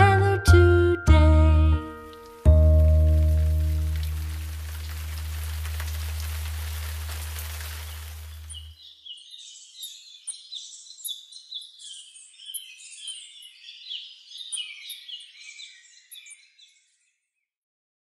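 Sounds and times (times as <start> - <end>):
small songbirds chirping: 2.0 - 17.5.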